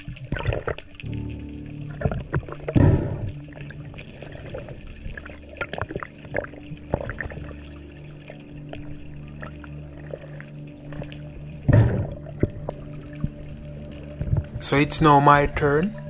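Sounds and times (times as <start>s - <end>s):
bubbles clicking and popping: 0.0s - 14.5s
underwater water rushing: 0.0s - 15.8s.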